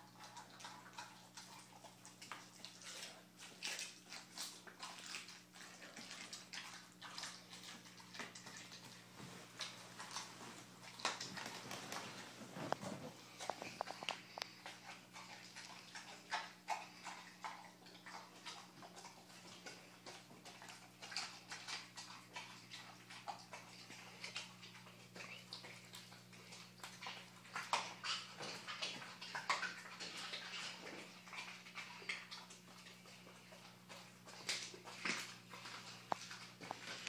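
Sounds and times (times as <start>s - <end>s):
dog chewing raw meat and bone: 0.0s - 37.0s.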